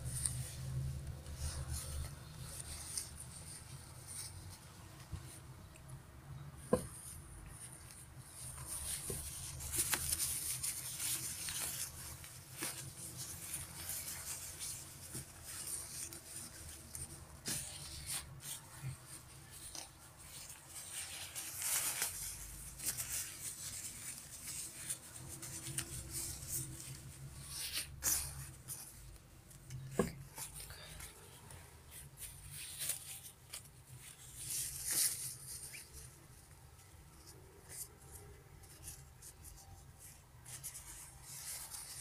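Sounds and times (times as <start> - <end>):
nylon jacket fabric rustling: 7.4 - 42.0.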